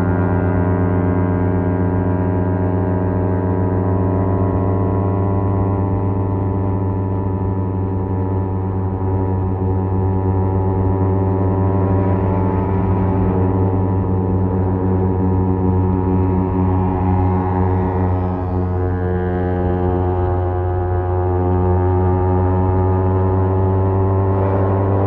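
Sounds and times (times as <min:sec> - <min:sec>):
motorcycle engine exhaust drone: 0:00.0 - 0:25.0.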